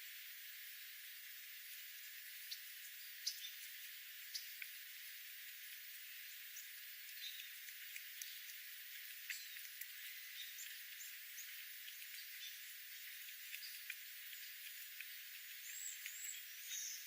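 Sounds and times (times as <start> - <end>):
steady hiss: 0.0 - 17.0
small birds chirping: 1.7 - 17.0.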